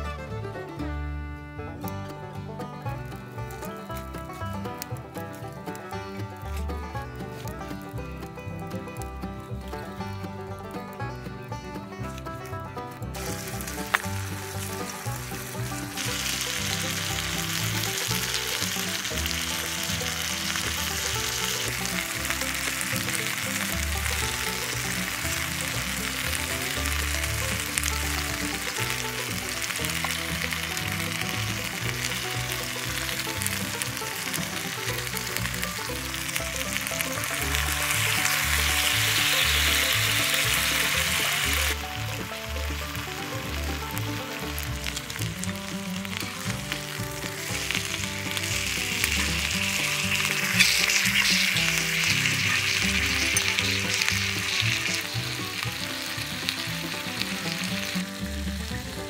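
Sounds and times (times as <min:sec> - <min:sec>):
background music with bass: 0:00.0 - 0:59.0
meat and garlic sizzling: 0:02.8 - 0:59.0.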